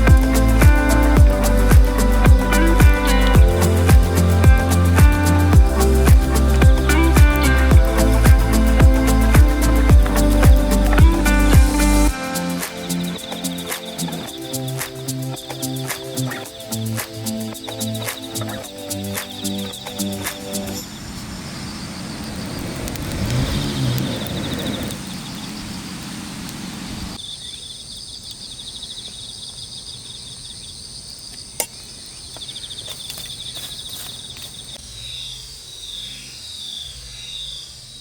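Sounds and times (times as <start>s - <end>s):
insects chirping in high trills: 0.0s - 38.0s
steady background hiss: 0.0s - 38.0s.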